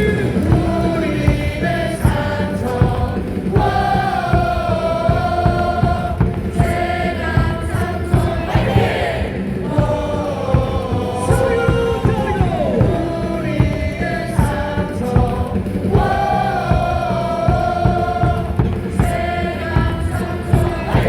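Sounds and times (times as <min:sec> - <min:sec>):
crowd singing a cheer song: 0:00.0 - 0:21.0
music over stadium speakers: 0:00.0 - 0:21.0.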